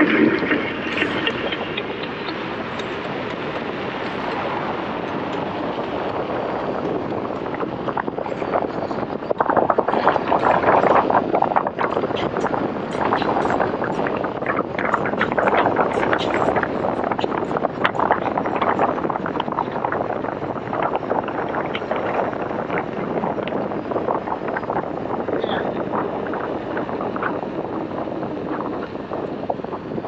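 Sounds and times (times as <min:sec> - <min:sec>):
wind rushing over helmet: 0:00.0 - 0:30.0.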